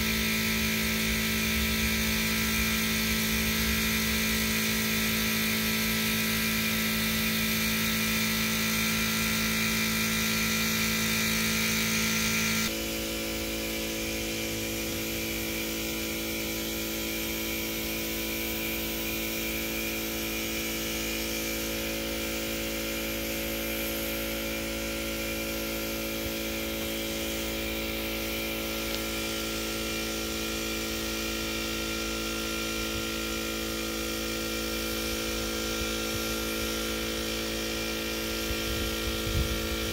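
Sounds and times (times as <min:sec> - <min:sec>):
air compressor humming: 0:00.0 - 0:39.9
spray gun hissing: 0:00.0 - 0:39.9.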